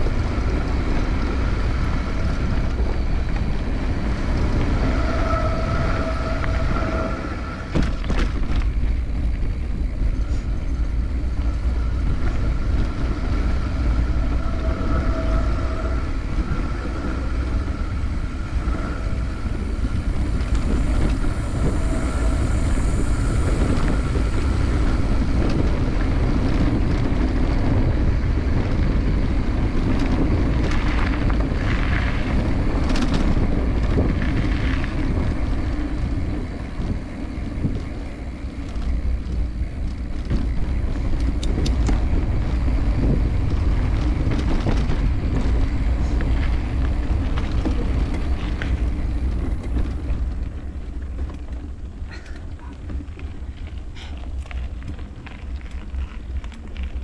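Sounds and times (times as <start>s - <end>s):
bike rattling on rough track: 0.0s - 57.0s
wind buffeting microphone: 0.0s - 57.0s.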